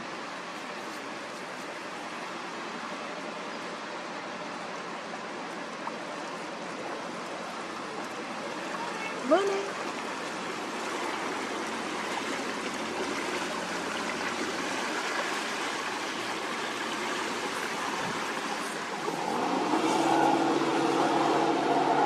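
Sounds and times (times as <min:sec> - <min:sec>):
boat engine humming: 0:00.0 - 0:22.0
river water flowing: 0:00.0 - 0:22.0.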